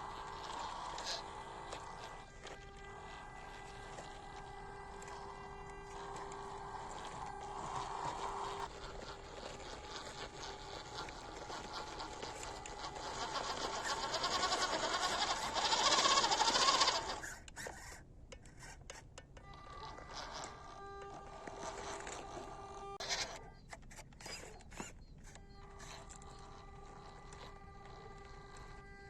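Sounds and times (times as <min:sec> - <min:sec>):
small electric motor and gearbox: 0:00.0 - 0:29.0.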